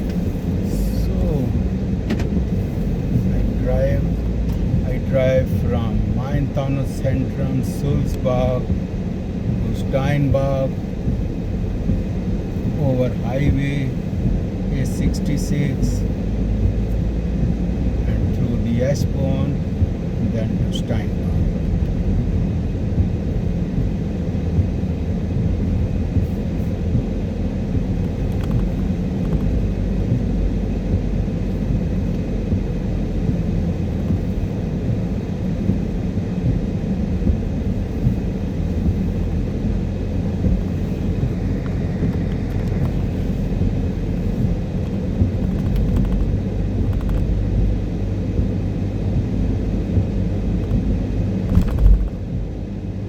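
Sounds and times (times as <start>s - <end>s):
car engine rumble: 0.0s - 53.0s
road noise: 0.0s - 53.0s.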